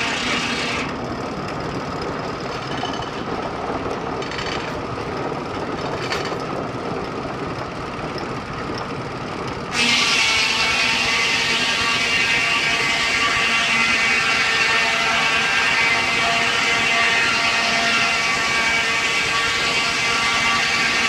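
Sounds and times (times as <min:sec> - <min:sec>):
loud sharp machine sound: 0:00.0 - 0:21.0
sawmill machinery clattering: 0:00.0 - 0:21.0.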